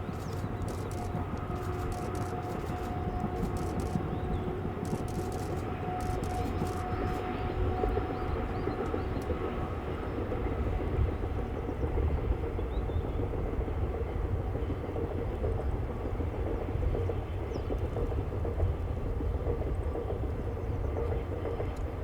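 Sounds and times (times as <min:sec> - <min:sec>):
train engine and wheels rumbling: 0:00.0 - 0:22.0.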